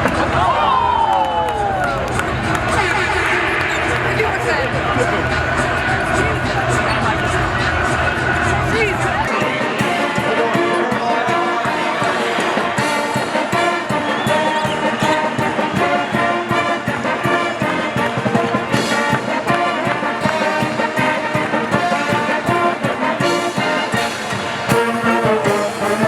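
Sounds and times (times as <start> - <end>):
brass band music: 1.4 - 26.0
steady drum beat: 1.6 - 26.0.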